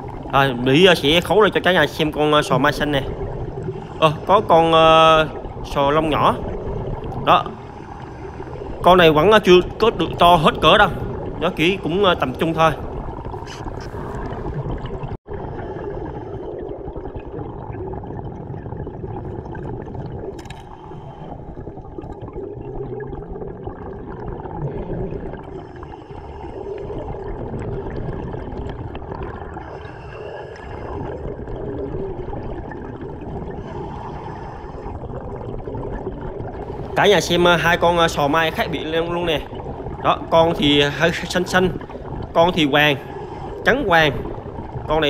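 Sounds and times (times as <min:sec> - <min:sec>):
exhaled bubbles gurgling underwater: 0:00.0 - 0:45.0.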